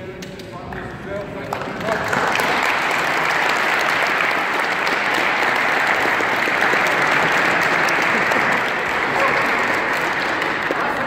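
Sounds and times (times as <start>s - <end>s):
crowd applauding: 1.1s - 11.0s.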